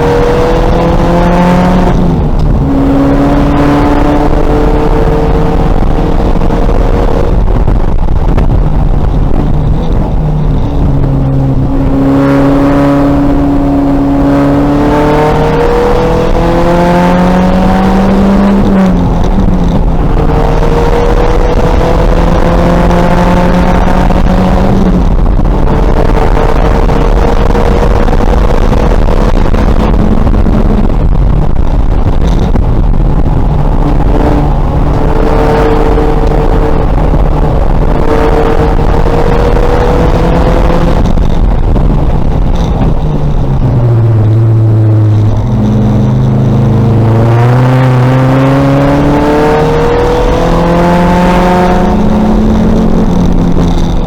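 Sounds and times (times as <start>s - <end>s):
race car engine accelerating hard: 0.0s - 54.0s.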